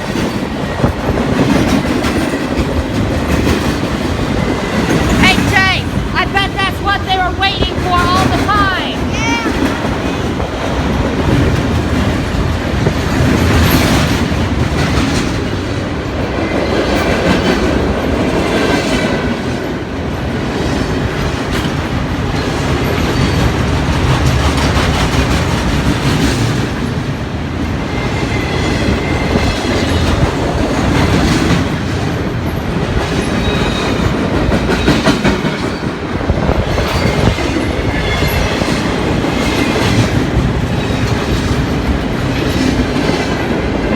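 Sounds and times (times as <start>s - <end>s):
train wheels clattering on rails: 0.0s - 6.1s, 9.4s - 43.9s.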